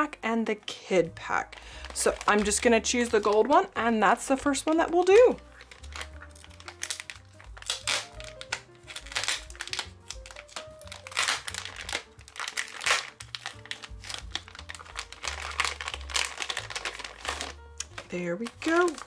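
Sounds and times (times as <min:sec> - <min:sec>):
packaging crinkling and rustling: 0:01.4 - 0:03.8, 0:04.5 - 0:19.0.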